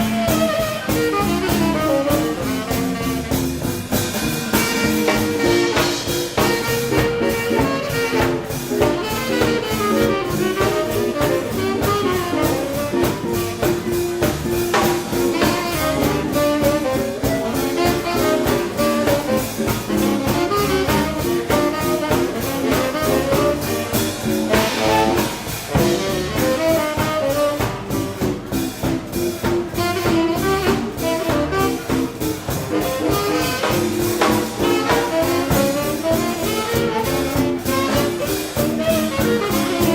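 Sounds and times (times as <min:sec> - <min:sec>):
drum beat: 0:00.0 - 0:39.9
saxophone: 0:00.0 - 0:39.9
swing band playing: 0:00.0 - 0:39.9.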